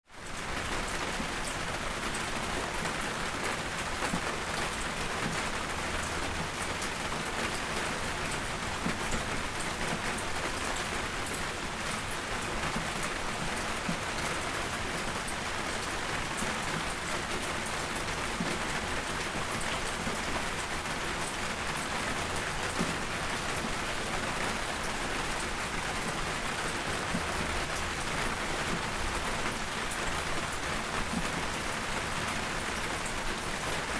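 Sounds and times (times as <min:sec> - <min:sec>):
soft rainfall: 0:00.0 - 0:33.9.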